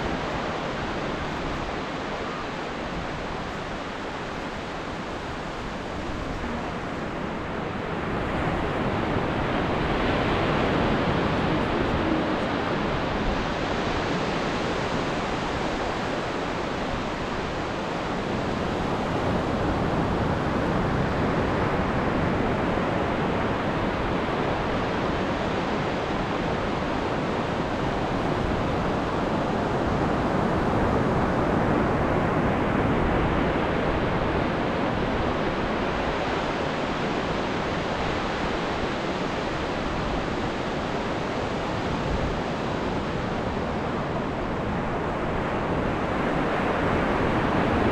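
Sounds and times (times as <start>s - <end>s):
ocean waves breaking on shore: 0.0s - 47.9s.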